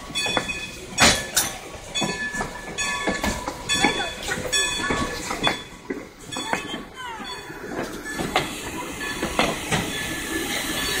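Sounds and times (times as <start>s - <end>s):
train wheels knocking over rail joints: 0.0s - 11.0s.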